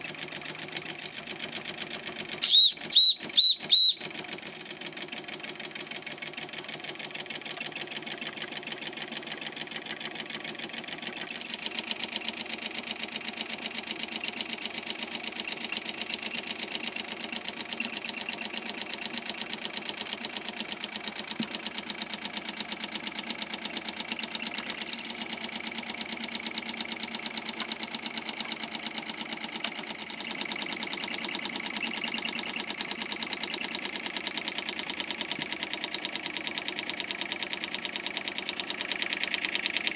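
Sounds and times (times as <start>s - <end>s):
model steam engine rattling: 3.7s - 39.9s.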